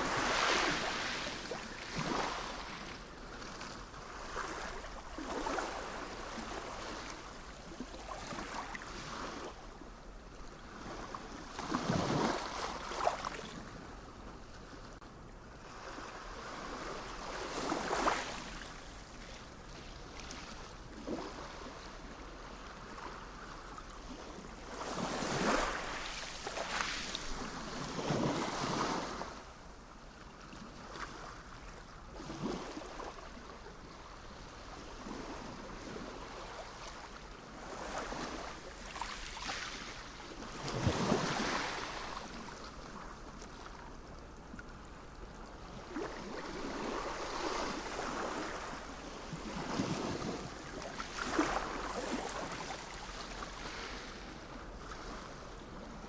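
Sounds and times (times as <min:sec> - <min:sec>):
sea waves breaking on shore: 0:00.0 - 0:15.0, 0:15.6 - 0:29.8, 0:30.5 - 0:56.0.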